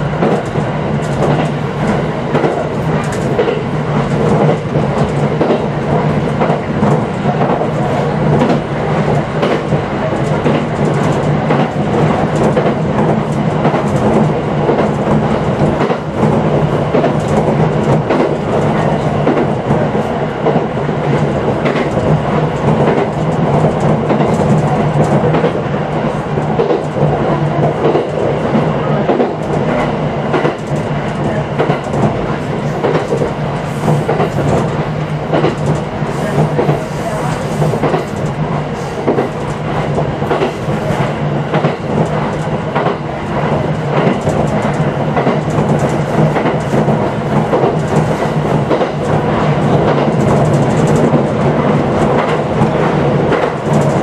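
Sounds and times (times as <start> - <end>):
electric train running hum: 0.0 - 54.0.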